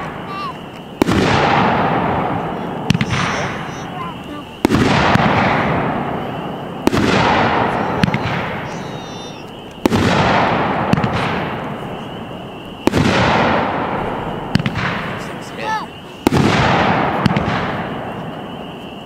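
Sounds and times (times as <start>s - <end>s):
small firework pops: 0.0s - 15.3s, 16.2s - 19.0s
firework bursts with rushing noise: 0.0s - 19.0s.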